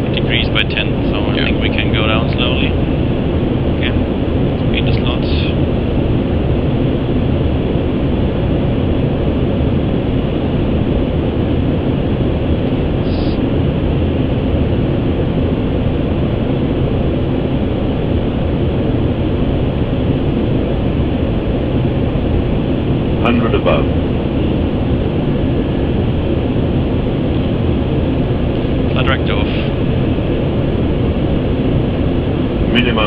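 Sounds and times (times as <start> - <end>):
cockpit airflow and engine noise: 0.0 - 33.0.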